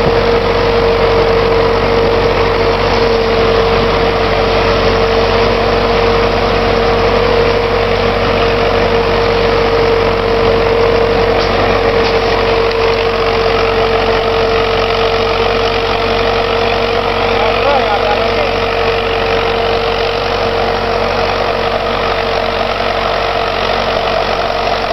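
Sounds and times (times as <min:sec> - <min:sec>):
high whine: 0:00.0 - 0:24.9
tractor diesel engine running: 0:00.0 - 0:24.9.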